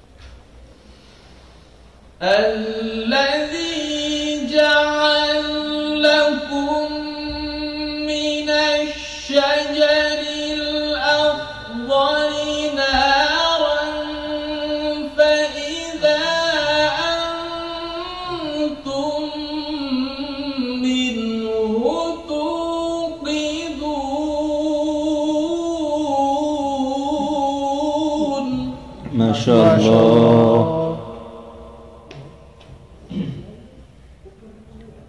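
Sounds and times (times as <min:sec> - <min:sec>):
man reciting melodically: 0:02.2 - 0:33.2.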